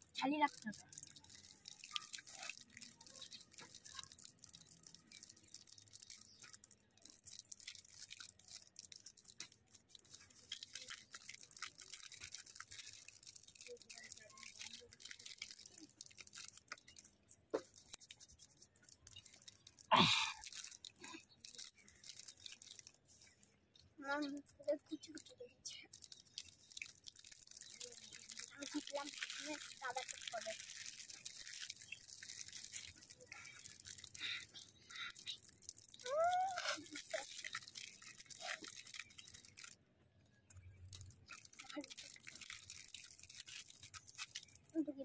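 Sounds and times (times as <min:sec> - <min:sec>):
plastic wrappers crinkling and tearing: 0:00.0 - 0:39.8, 0:40.4 - 0:45.0.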